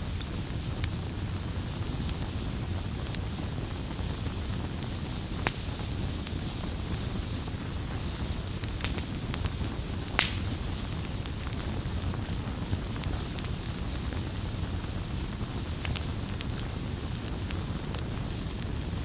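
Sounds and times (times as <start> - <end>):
burning wood popping: 0.0 - 19.0
campfire crackling: 0.0 - 19.0.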